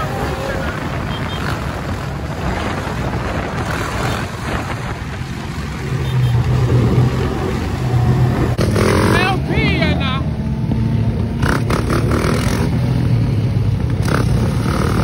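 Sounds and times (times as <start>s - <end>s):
motorcycle engines running: 0.0s - 15.0s
wind and road noise: 0.0s - 15.0s.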